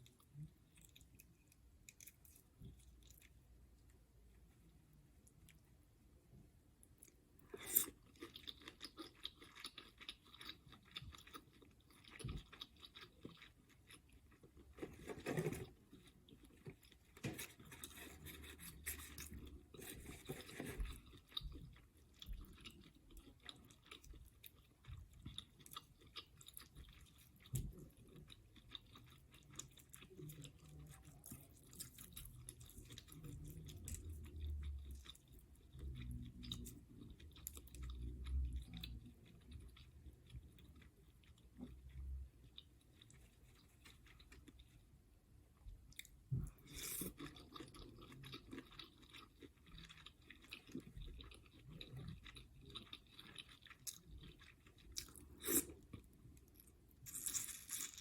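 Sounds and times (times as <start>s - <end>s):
person chewing wetly: 6.9s - 44.9s, 45.9s - 58.0s.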